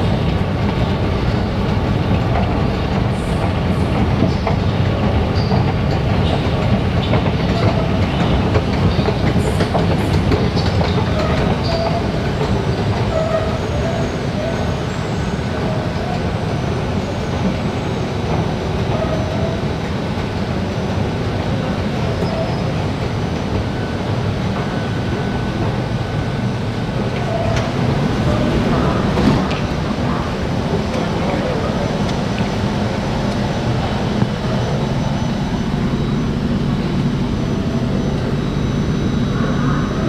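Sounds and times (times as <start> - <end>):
low rumble of metro platform: 0.0 - 40.0.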